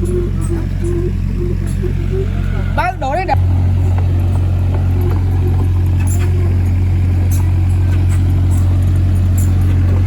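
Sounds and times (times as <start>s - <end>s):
excavator diesel engine drone: 0.0s - 10.0s.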